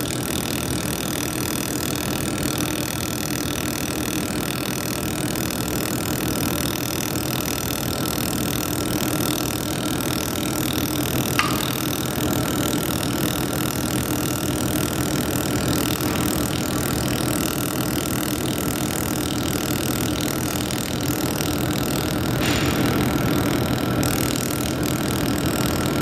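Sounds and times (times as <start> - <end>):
laser welder humming and hissing: 0.0 - 26.0.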